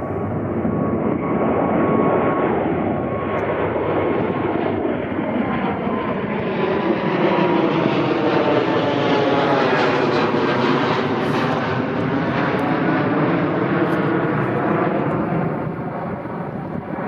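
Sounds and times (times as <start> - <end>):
jet engine roar with whine: 0.0 - 17.0.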